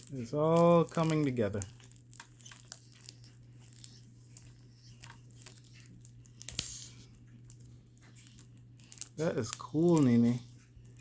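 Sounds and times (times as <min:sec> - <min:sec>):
slime sticky clicks and crackles: 0:00.0 - 0:11.0
steady low hum: 0:00.0 - 0:11.0.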